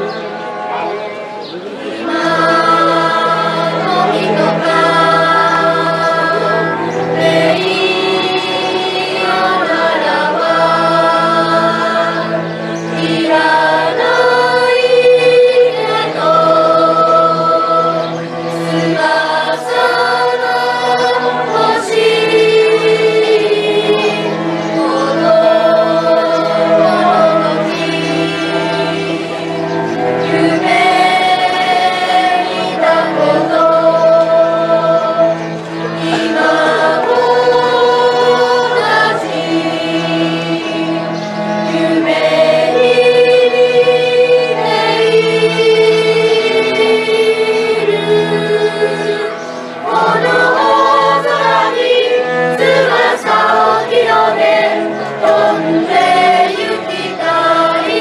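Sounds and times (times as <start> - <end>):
cellos bowing low notes: 0.0 - 58.0
choir singing: 0.0 - 58.0.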